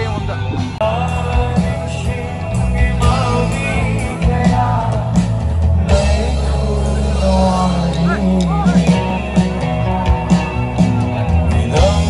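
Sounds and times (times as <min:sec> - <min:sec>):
deep bass: 0:00.0 - 0:12.0
live band playing: 0:00.0 - 0:12.0
person singing: 0:00.8 - 0:12.0.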